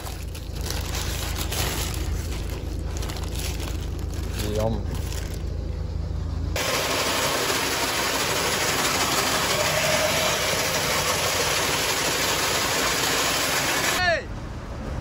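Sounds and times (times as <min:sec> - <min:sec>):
machinery engine running: 0:00.0 - 0:14.0.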